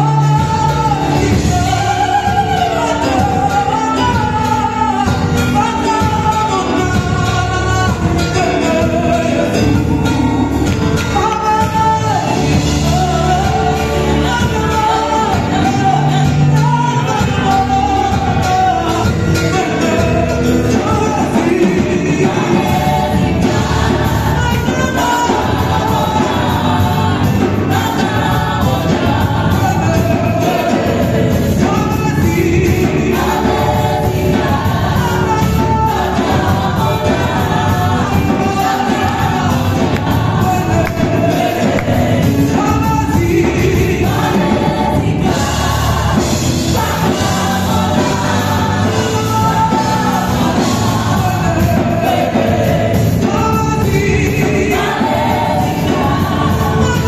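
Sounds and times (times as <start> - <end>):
drum kit and band: 0.0 - 57.0
singers on microphones: 0.0 - 57.0.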